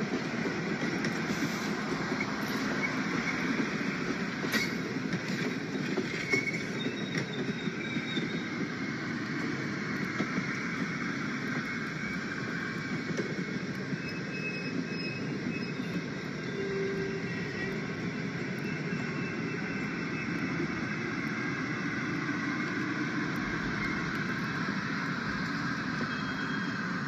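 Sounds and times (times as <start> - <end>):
train rolling past: 0.0 - 27.0.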